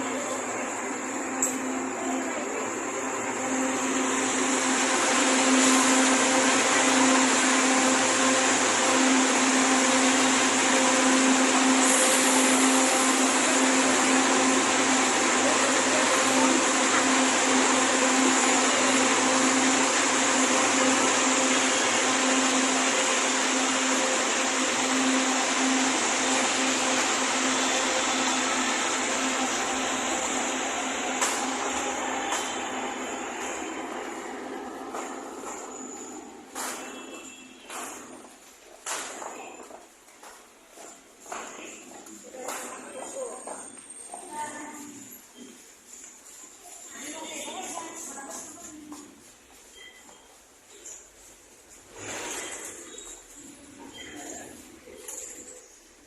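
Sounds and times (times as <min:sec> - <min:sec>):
train running from inside carriage: 0:00.0 - 0:56.0.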